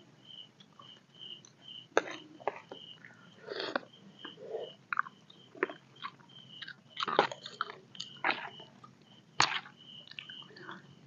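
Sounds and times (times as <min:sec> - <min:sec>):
people chewing and biting: 0:02.0 - 0:10.9.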